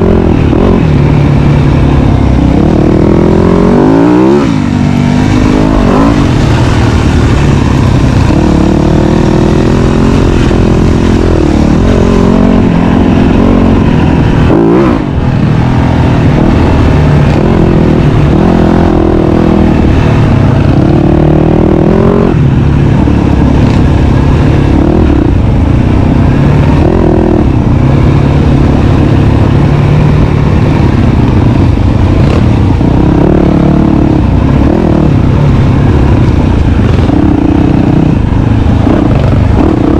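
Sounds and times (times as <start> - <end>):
dirt bike engine revving: 0.0 - 31.4, 32.0 - 39.9.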